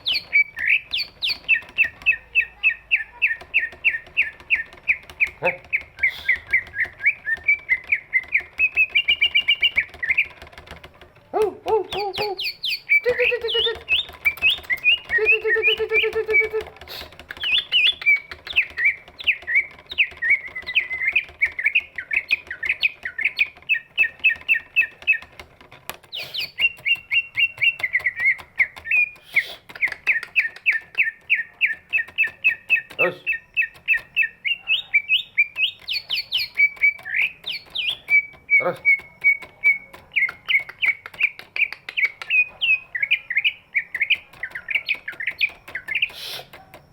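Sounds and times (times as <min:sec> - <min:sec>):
bird singing rapid chirps and trills: 0:00.0 - 0:46.9.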